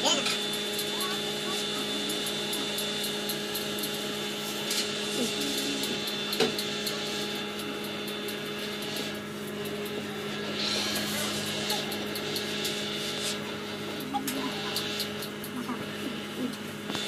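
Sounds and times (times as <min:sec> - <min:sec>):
small electric motor humming: 0:00.0 - 0:17.0.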